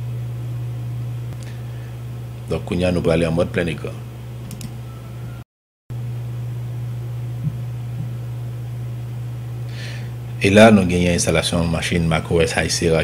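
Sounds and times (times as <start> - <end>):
low hum with faint hiss: 0.0 - 5.4, 6.0 - 13.0.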